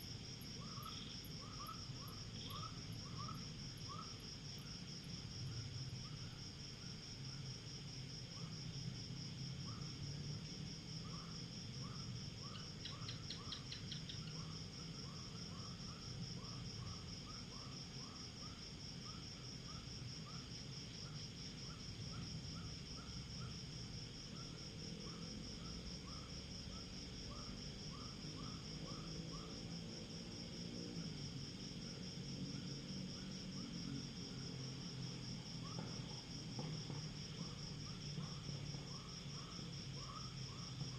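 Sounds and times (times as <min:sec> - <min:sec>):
crickets trilling: 0:00.0 - 0:40.9
insect chirps: 0:00.0 - 0:40.9.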